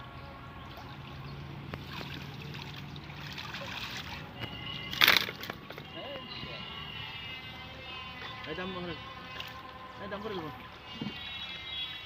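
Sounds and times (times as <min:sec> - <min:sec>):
water sloshing and trickling: 0:00.0 - 0:12.0.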